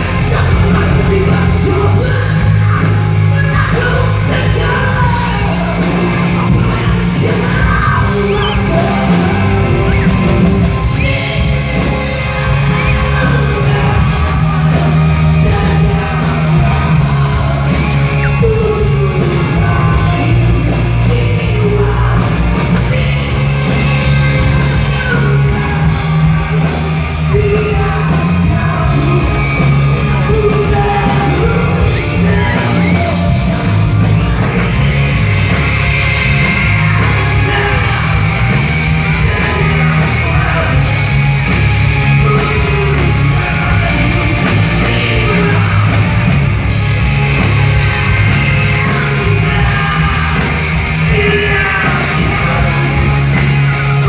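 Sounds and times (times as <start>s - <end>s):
live rock band with singer: 0.0s - 54.0s
crowd shouting along: 1.7s - 21.9s, 29.4s - 54.0s.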